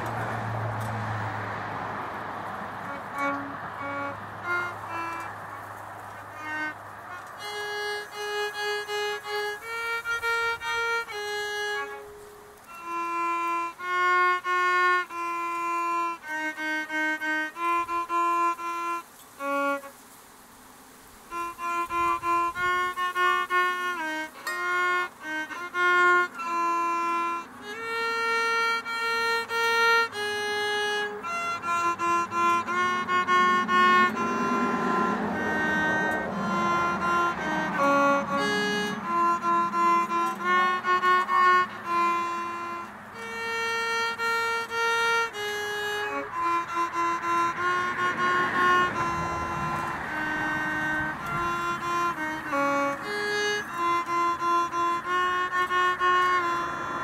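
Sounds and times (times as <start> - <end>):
violin melody: 0.0 - 57.0.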